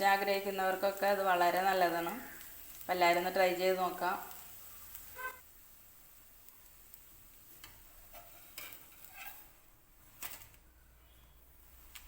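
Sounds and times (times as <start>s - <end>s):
food sizzling on a pan: 0.0s - 12.0s.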